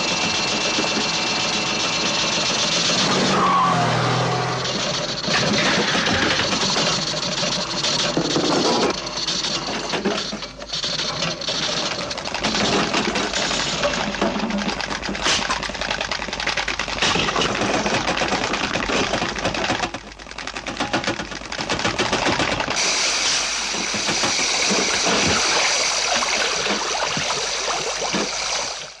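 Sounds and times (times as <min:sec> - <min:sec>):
rapid mechanical rattling clatter: 0:00.0 - 0:29.0.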